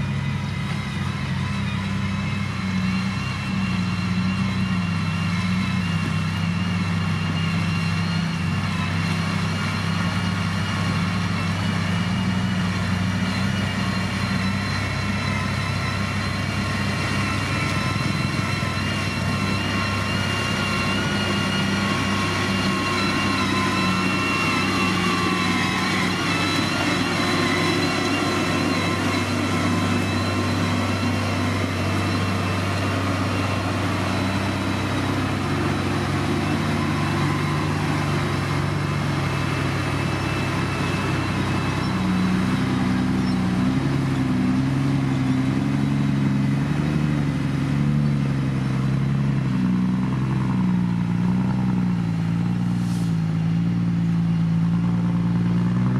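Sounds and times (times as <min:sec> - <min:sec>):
high whining tones: 0:00.0 - 0:55.7
diesel engine running: 0:00.0 - 0:55.9.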